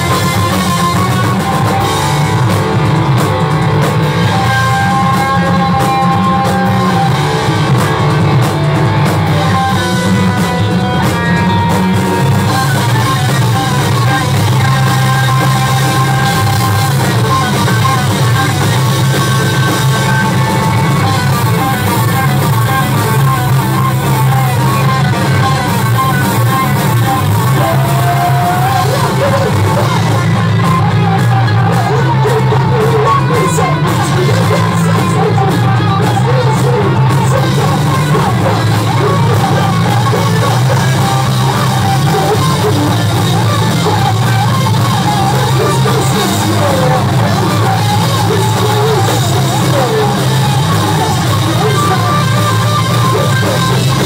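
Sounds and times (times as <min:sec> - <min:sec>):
electric guitar: 0:00.0 - 0:54.0
live rock band playing: 0:00.0 - 0:54.0
person singing: 0:00.0 - 0:54.0.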